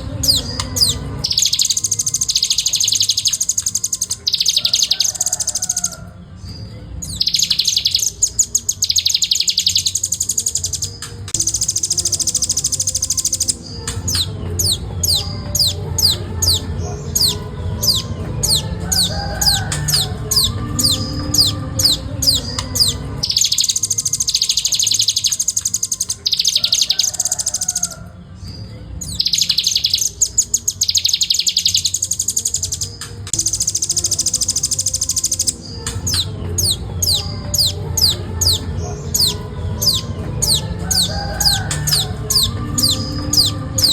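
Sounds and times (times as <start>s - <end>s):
bird singing trills and notes: 0.0s - 43.9s.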